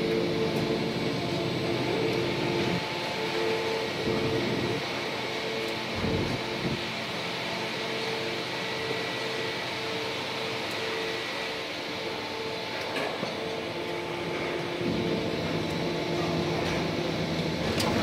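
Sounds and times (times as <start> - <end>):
machine hum and whir: 0.0 - 18.0.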